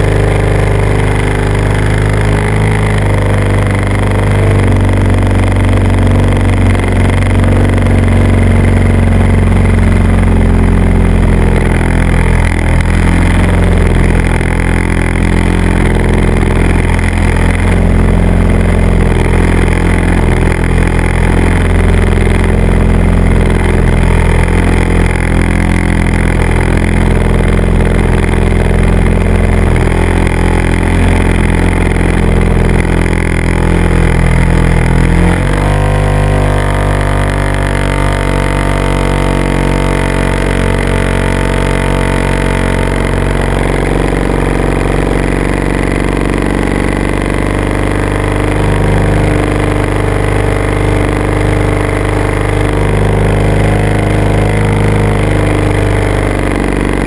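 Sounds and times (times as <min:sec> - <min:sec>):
small aircraft engine droning: 0:00.0 - 0:57.0.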